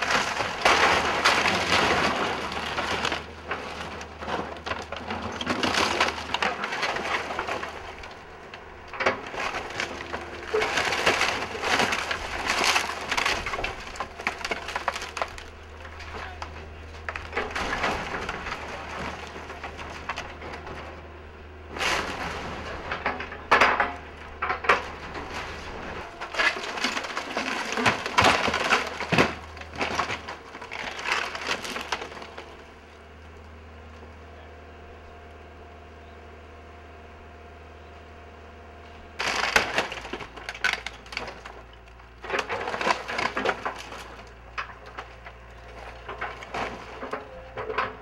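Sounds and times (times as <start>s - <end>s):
wood splintering and crushing: 0.0s - 34.8s, 38.9s - 48.0s
low machine hum: 0.0s - 48.0s.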